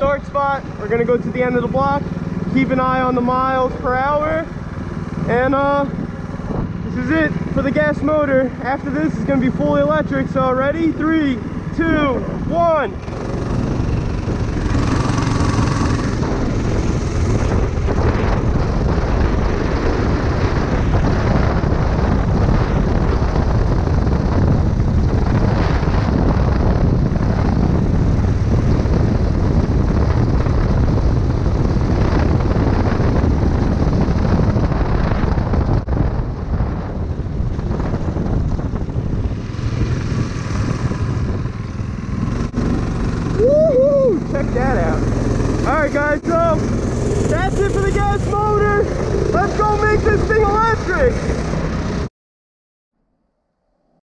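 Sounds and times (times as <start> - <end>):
go-kart engine at full throttle: 0.0 - 52.1.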